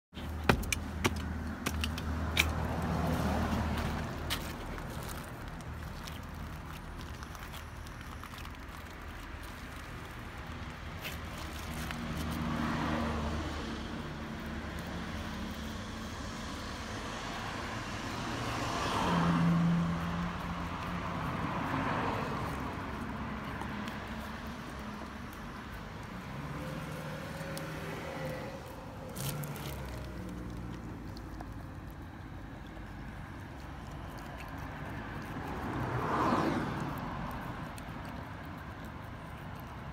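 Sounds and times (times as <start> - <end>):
cars passing by: 0.1 - 39.9.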